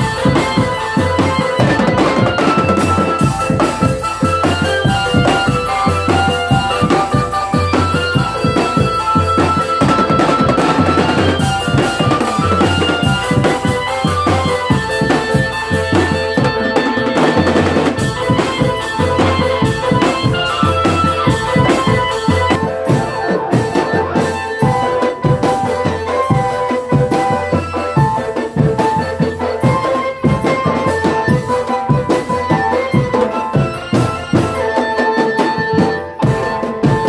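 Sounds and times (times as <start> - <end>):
drum band playing: 0.0 - 37.0
held melody notes: 0.0 - 37.0.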